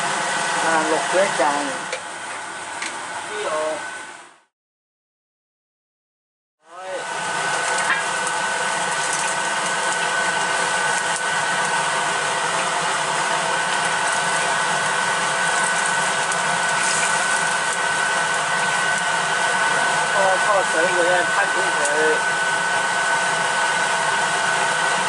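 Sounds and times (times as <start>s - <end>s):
exhaust fan whirring: 0.0s - 4.2s, 6.7s - 25.0s.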